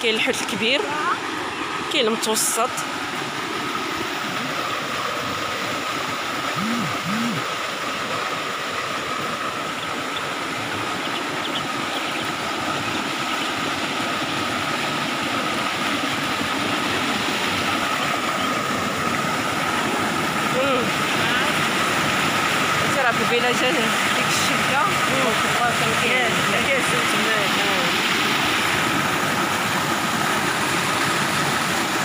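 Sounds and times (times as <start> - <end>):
water rushing: 0.0 - 32.0.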